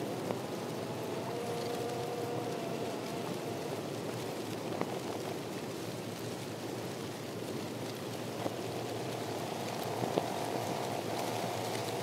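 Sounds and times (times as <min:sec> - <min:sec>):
steady water noise: 0:00.0 - 0:12.0.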